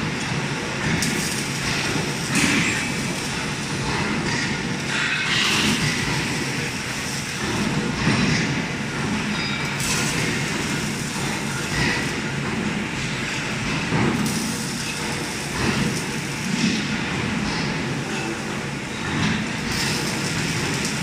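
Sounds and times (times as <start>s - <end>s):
industrial machine noise: 0.0s - 21.0s.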